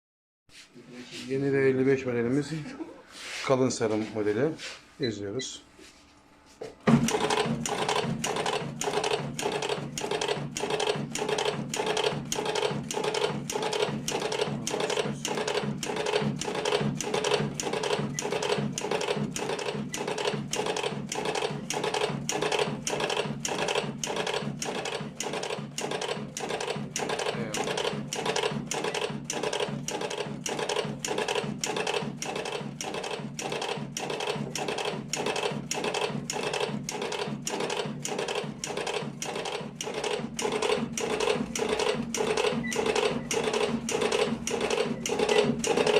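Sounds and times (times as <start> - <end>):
cigarette rolling machine clacking: 6.9 - 45.9.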